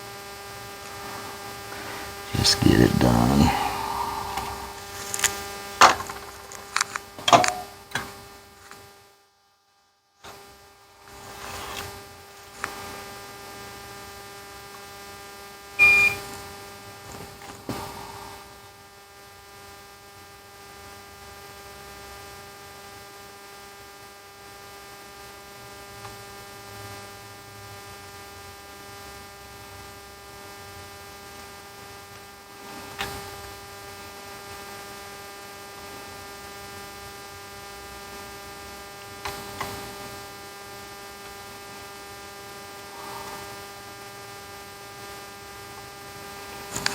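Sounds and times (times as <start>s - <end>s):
electrical hum: 0.0s - 22.2s, 29.2s - 46.9s.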